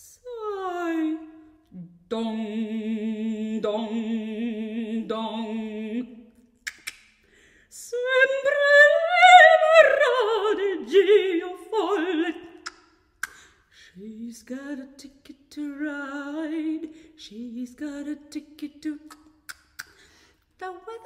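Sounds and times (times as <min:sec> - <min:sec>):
woman singing operatic soprano: 0:00.0 - 0:06.3, 0:07.7 - 0:12.6, 0:13.9 - 0:19.2, 0:20.6 - 0:21.0.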